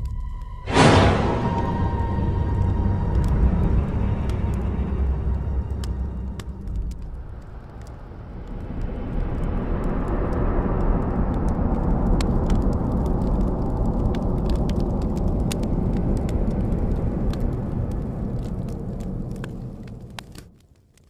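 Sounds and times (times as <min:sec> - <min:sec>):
burning wood crackling and popping: 0:00.0 - 0:21.0
fire rushing noise: 0:00.6 - 0:20.6.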